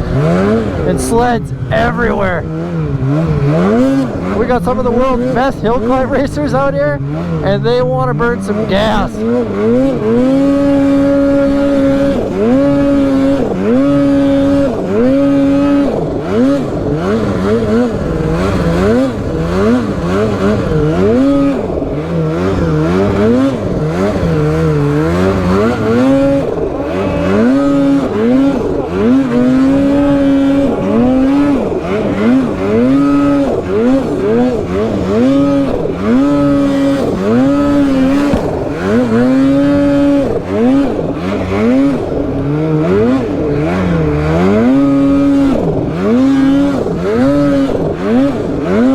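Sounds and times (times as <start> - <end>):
snowmobile engine revving: 0.0 - 48.9.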